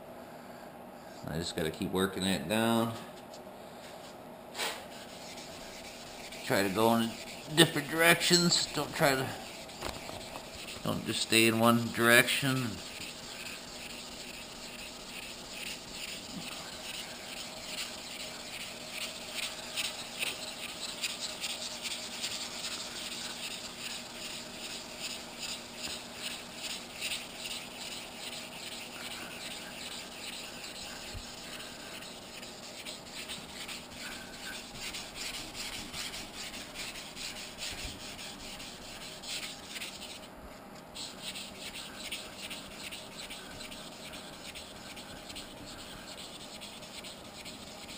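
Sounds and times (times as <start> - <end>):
wet sandpaper rubbing on metal: 4.6 - 40.3, 41.0 - 47.9.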